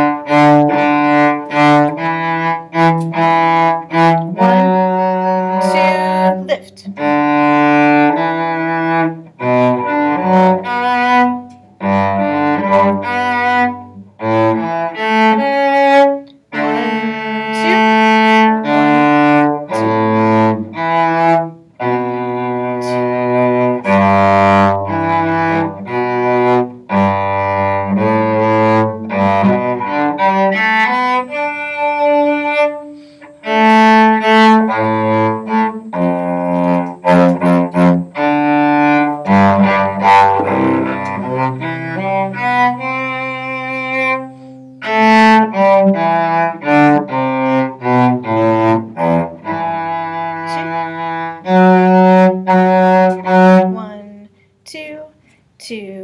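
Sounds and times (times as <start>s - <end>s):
bowed cello melody: 0.0s - 55.0s.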